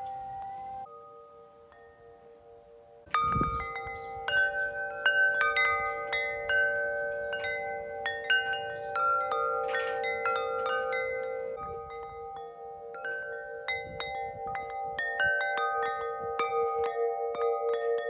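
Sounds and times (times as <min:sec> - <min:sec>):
chimes ringing: 0:00.0 - 0:18.0.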